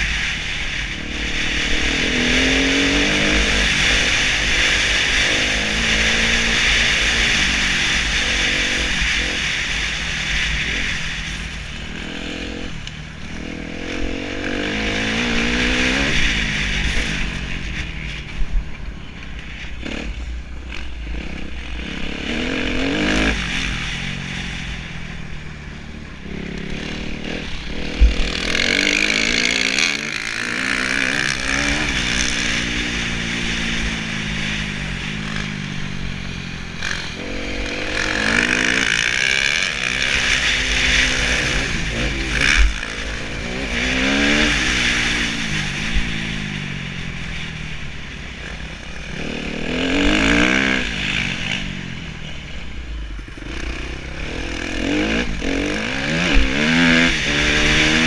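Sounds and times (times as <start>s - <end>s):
motocross engine revving: 0.0s - 18.2s, 19.8s - 25.4s, 26.0s - 58.0s.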